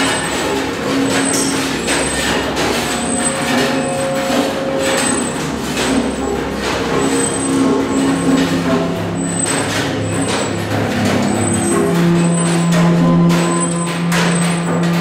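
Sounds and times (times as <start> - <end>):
vacuum pump hum: 0.0 - 15.0.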